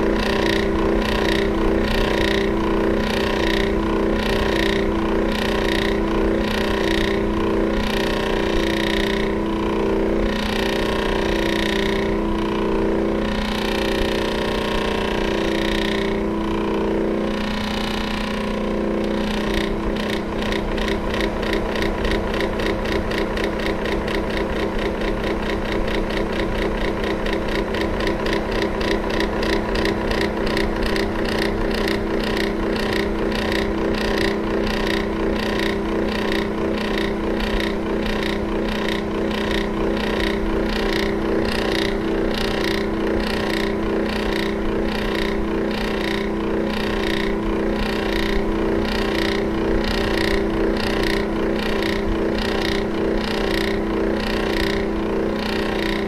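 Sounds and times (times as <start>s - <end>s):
electric fan motor hum: 0.0s - 56.0s
fan ticking rattle: 0.0s - 56.0s.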